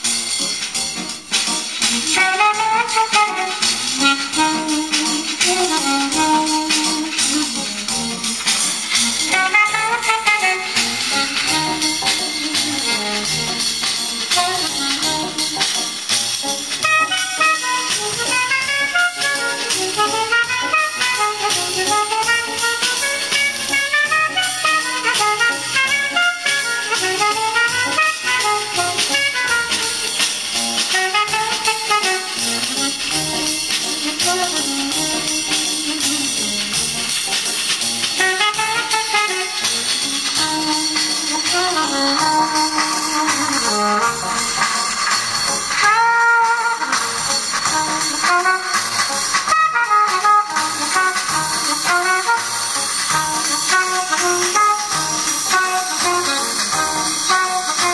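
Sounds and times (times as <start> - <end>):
song with brass and percussion: 0.0 - 57.9.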